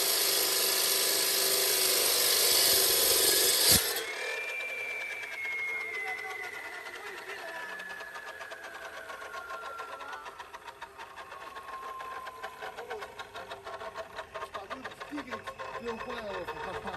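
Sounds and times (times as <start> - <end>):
concrete cutter blade spinning down: 0.0 - 16.9.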